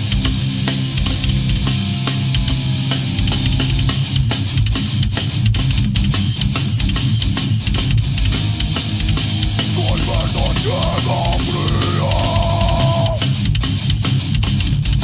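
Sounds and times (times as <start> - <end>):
metal band playing: 0.0 - 15.0.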